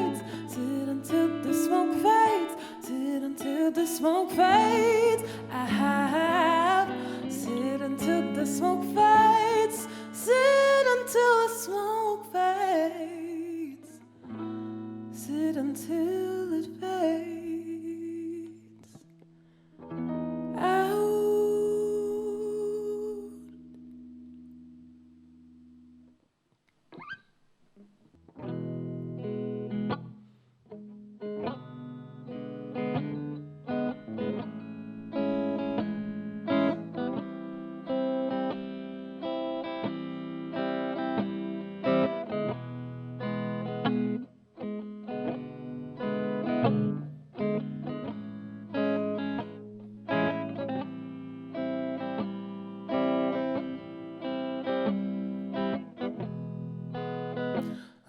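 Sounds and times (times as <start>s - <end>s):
guitar plucking chords: 0.0s - 19.1s, 19.8s - 26.1s, 28.2s - 58.0s.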